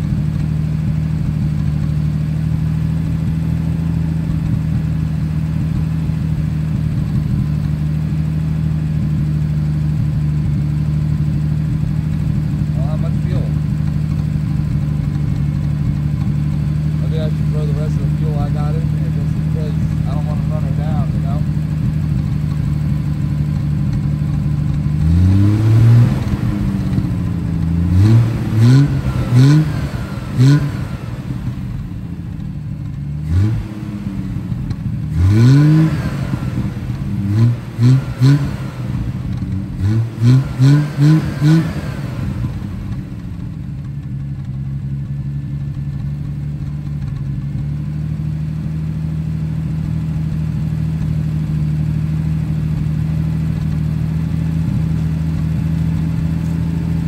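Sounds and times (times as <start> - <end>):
car engine revving and idling: 0.0 - 57.0.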